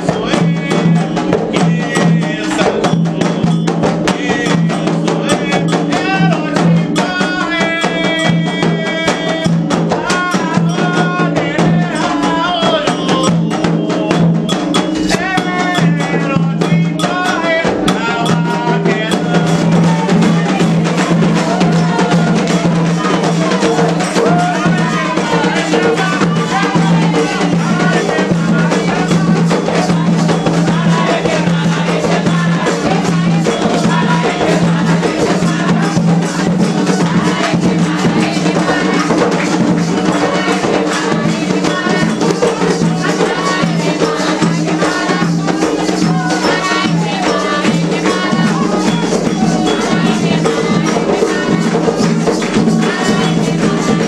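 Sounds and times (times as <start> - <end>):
chanted singing: 0.0 - 54.0
drums and percussion: 0.0 - 54.0.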